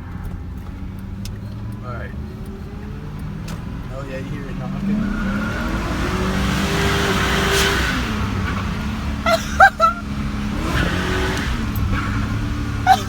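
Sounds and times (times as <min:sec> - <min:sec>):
engine revving with rod knock: 0:00.2 - 0:09.1, 0:10.2 - 0:13.0.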